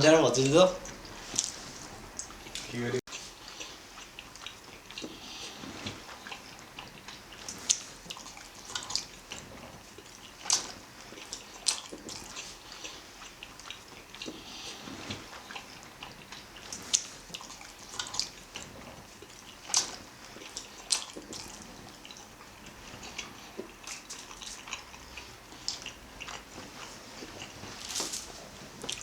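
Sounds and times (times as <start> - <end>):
people chewing food: 0.0 - 29.0.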